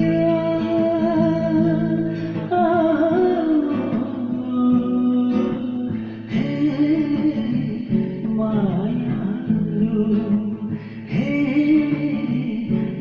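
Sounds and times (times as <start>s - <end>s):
acoustic guitar playing: 0.0s - 13.0s
person singing: 0.0s - 13.0s.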